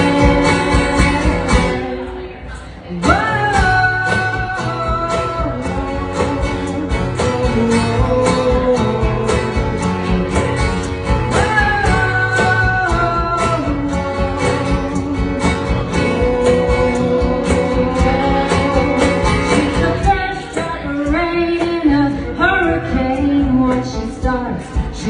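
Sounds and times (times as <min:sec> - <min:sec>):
bass: 0:00.0 - 0:25.0
lead guitar melody: 0:00.0 - 0:25.0.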